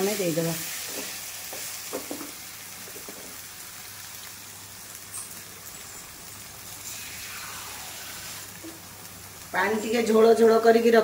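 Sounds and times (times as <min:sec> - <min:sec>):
food sizzling in a hot pan: 0:00.0 - 0:11.0.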